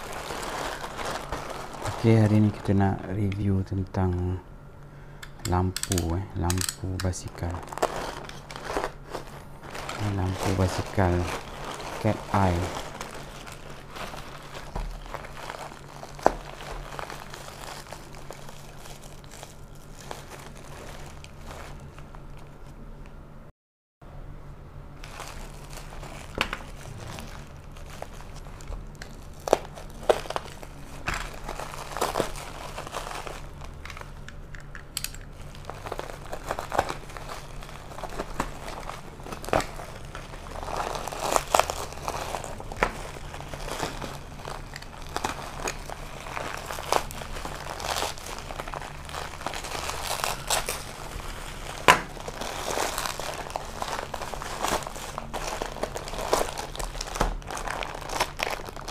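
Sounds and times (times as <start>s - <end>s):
bubble wrap crinkling: 0.0s - 4.0s, 6.8s - 22.8s, 25.0s - 58.9s.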